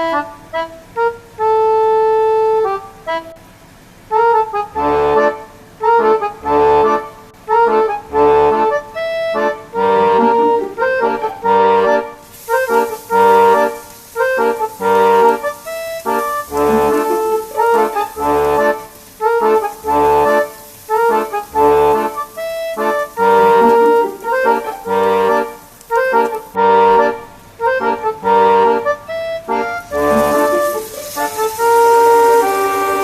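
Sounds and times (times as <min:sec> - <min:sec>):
reedy accordion-like melody: 0:00.0 - 0:03.5, 0:04.1 - 0:33.0.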